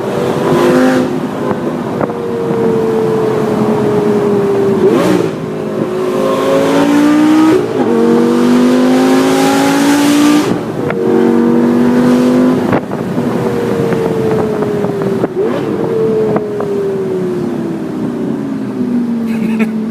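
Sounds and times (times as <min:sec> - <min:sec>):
sports car engine accelerating: 0:00.0 - 0:19.9.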